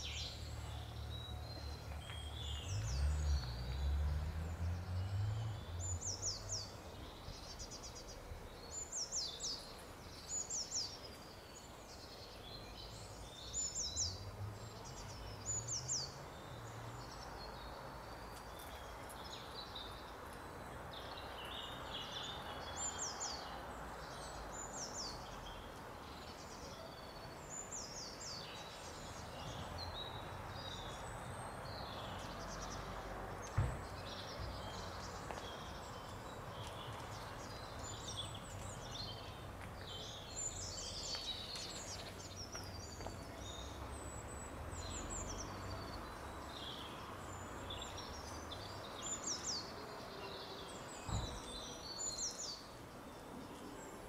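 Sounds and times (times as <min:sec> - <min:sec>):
outdoor background noise: 0:00.0 - 0:54.0
small birds chirping: 0:00.0 - 0:54.0.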